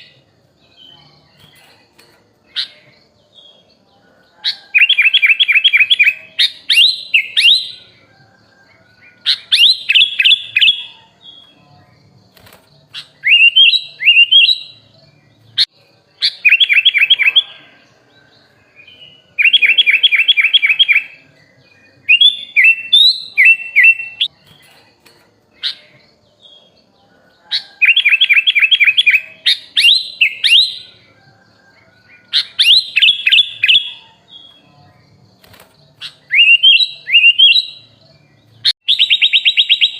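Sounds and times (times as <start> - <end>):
bird singing chattering phrases: 0.0 - 8.4, 9.0 - 39.9.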